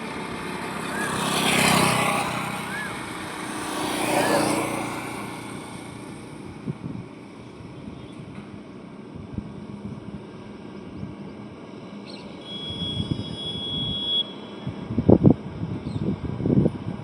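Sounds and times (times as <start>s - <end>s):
highway traffic rumble: 0.0s - 17.0s
vehicles passing close: 0.0s - 17.0s.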